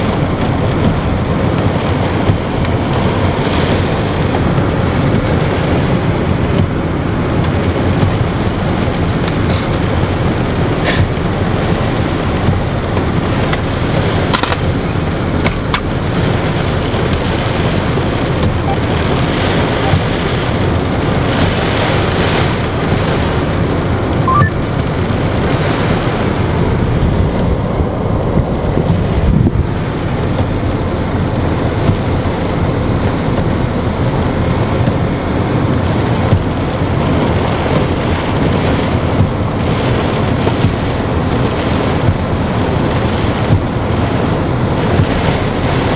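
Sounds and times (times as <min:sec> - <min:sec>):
wind and rain on car: 0:00.0 - 0:45.9.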